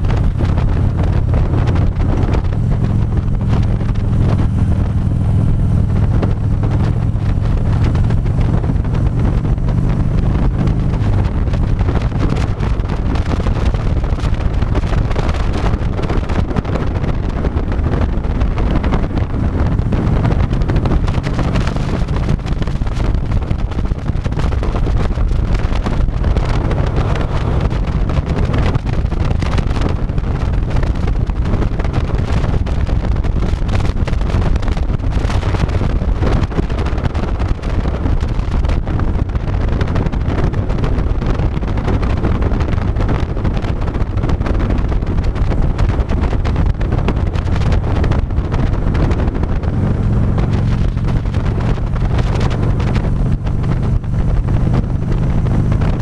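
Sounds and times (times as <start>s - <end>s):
motorcycle engine rumble: 0.0s - 56.0s
wind noise on microphone: 0.0s - 56.0s.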